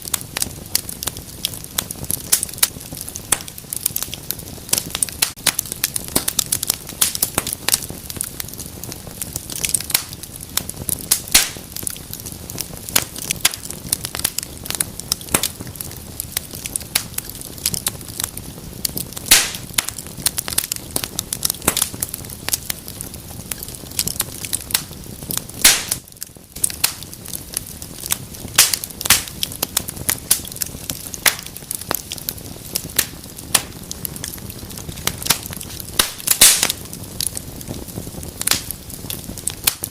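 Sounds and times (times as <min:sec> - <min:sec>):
hiss of flames: 0:00.0 - 0:39.9
wood fire crackling and popping: 0:00.0 - 0:39.9.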